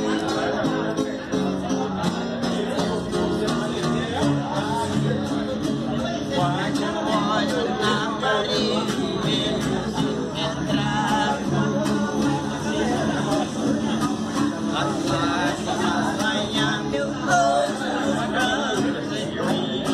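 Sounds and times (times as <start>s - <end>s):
acoustic guitar and viola strumming: 0.0s - 19.9s
man singing: 0.0s - 19.9s.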